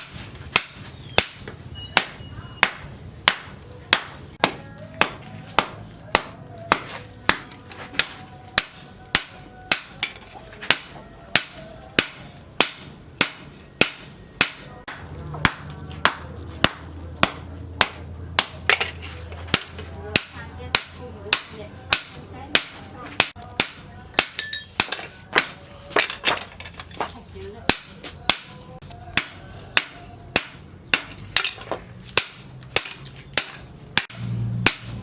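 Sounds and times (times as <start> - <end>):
hammer striking hot steel: 0.0 - 26.3, 27.7 - 35.0.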